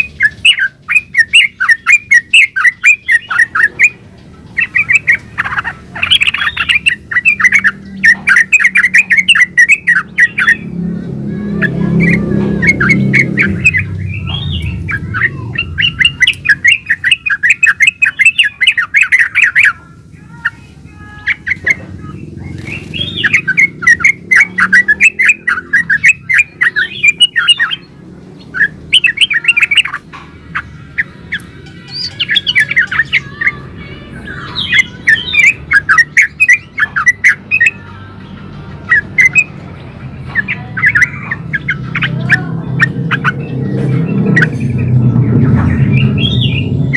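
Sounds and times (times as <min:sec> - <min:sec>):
bird singing chattering notes: 0:00.0 - 0:46.9.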